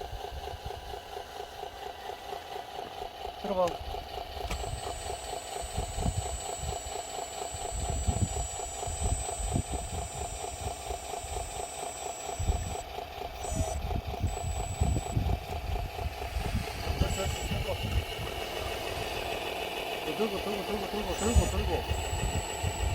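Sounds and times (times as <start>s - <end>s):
diesel engine idling: 0.0s - 22.9s
thin high whine: 4.5s - 22.9s.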